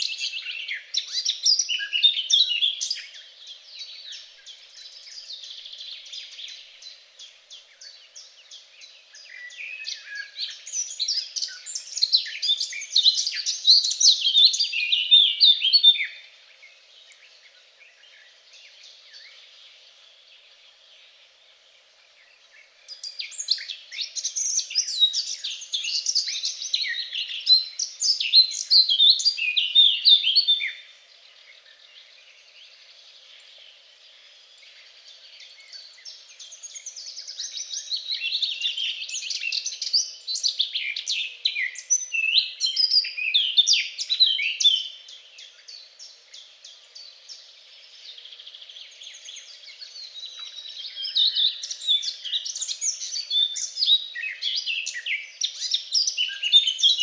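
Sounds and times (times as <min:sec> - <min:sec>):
songbird twittering: 0:00.0 - 0:57.0.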